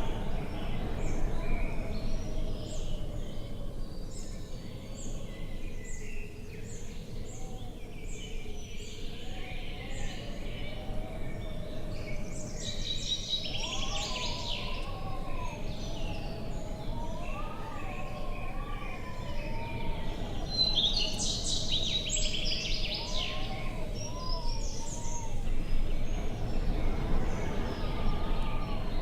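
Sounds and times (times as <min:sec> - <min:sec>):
low wind-like rumble: 0:00.0 - 0:29.0
small birds chirping: 0:00.0 - 0:29.0.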